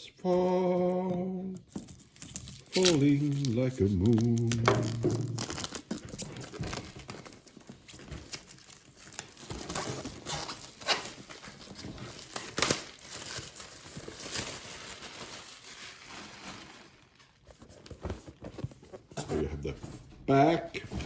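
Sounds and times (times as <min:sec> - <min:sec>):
packaging crinkling: 0:01.6 - 0:19.2.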